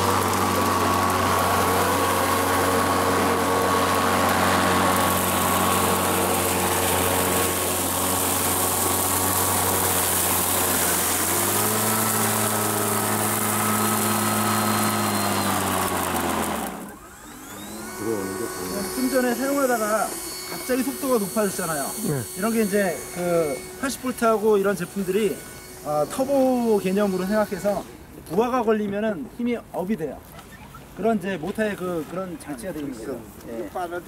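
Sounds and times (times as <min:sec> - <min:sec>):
electric lawn mower whine: 0:00.0 - 0:28.0.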